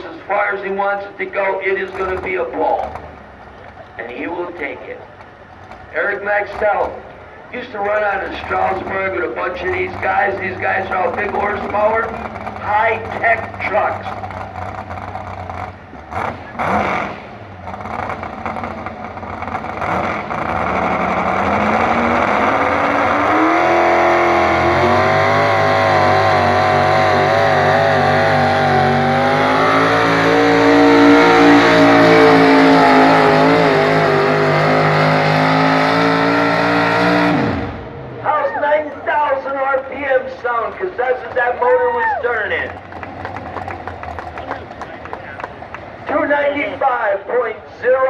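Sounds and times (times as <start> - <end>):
pulling truck engine at high revs: 0.0 - 48.0.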